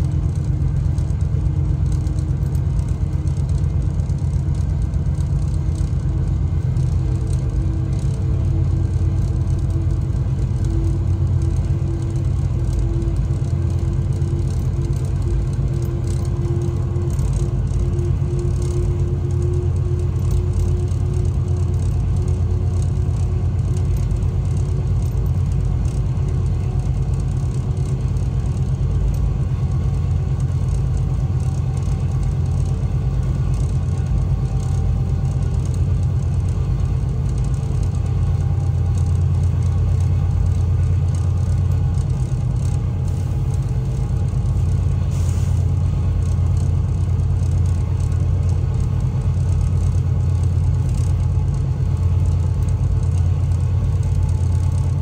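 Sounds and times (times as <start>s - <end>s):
locomotive engine deep drone: 0.0s - 55.0s.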